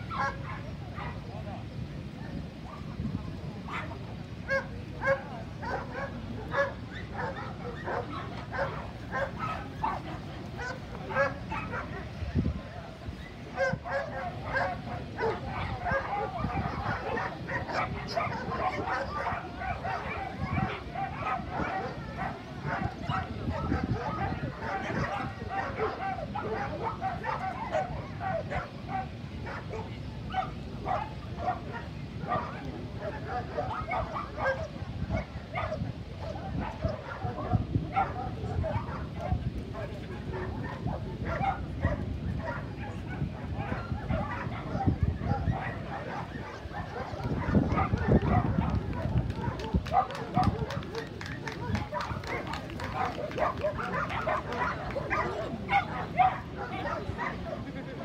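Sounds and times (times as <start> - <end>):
crowd chatter: 0.0 - 58.0
low background noise: 0.0 - 58.0
dog barking: 4.5 - 12.0, 13.6 - 39.4, 40.4 - 57.6.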